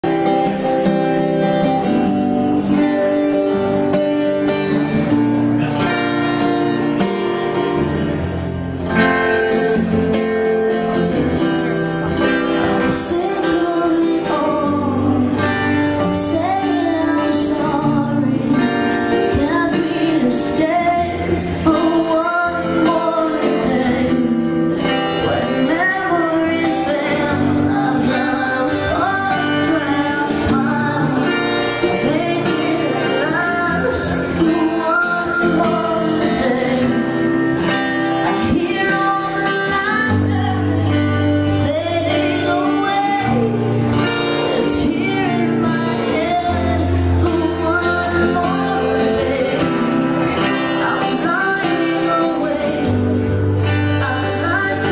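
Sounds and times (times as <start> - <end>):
acoustic guitar strumming: 0.0 - 54.9.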